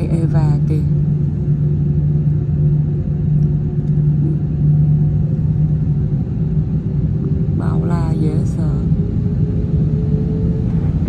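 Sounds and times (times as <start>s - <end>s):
jet engine cabin drone: 0.0s - 11.0s.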